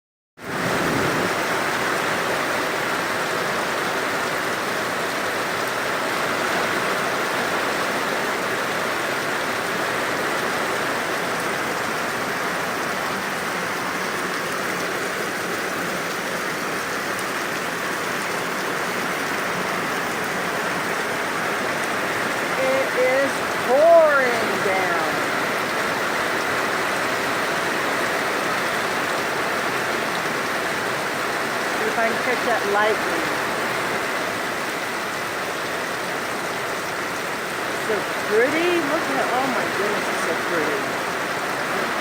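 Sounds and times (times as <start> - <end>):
heavy rain pouring: 0.4 - 42.0.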